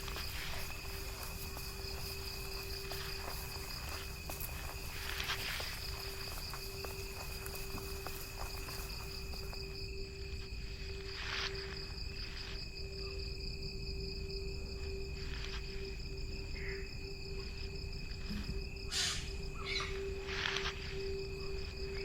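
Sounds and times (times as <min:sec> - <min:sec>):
insect chorus buzzing: 0:00.0 - 0:22.0.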